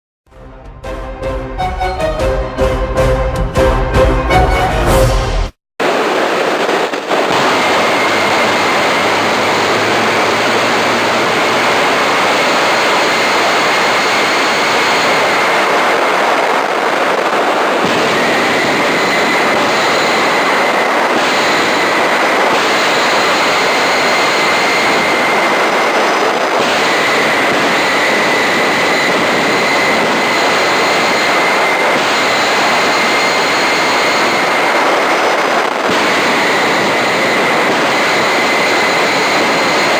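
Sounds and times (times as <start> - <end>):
jet engine rushing and whining: 1.6 - 39.9.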